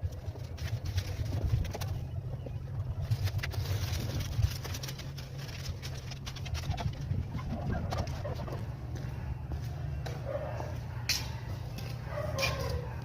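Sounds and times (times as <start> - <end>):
pigeons cooing: 0.7 - 13.0.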